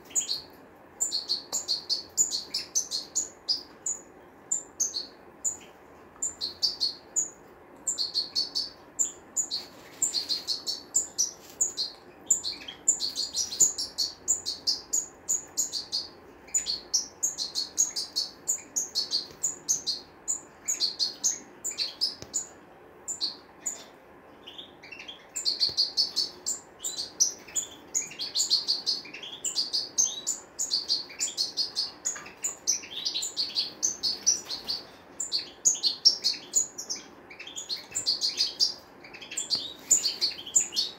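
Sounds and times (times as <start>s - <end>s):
finches twittering: 0.1s - 22.5s, 23.1s - 40.9s.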